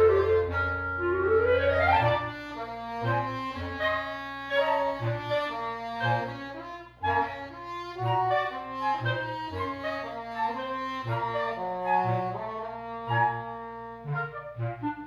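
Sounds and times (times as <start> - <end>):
woodwind ensemble holding notes: 0.0 - 15.0.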